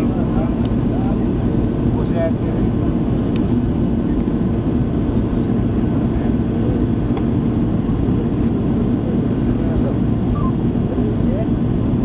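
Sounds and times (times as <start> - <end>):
jet engines droning: 0.0 - 12.0.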